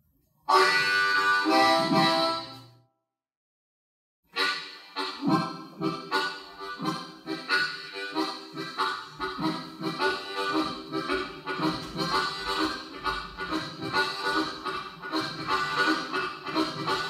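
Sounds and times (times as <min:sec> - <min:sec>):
harmonica playing train-rhythm tune: 0:00.5 - 0:02.7, 0:04.3 - 0:17.0.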